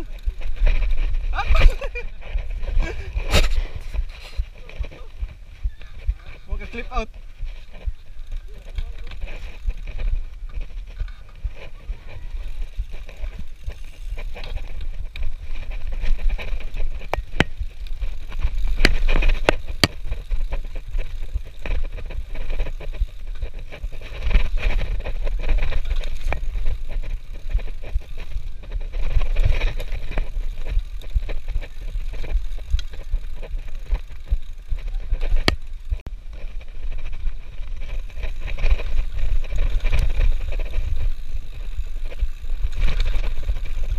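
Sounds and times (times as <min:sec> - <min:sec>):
bike knocks and rattles: 0:00.0 - 0:43.9
bike tyre and frame noise: 0:00.0 - 0:43.9.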